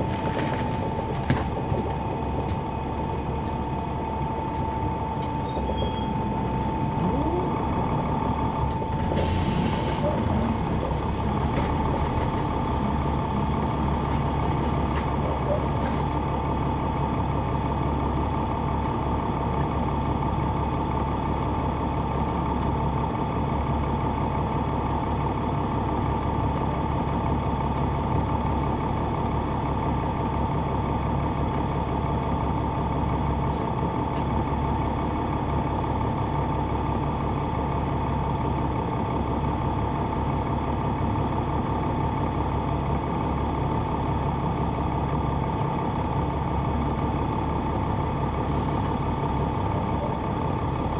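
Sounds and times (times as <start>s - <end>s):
bus diesel engine running: 0.0s - 50.9s.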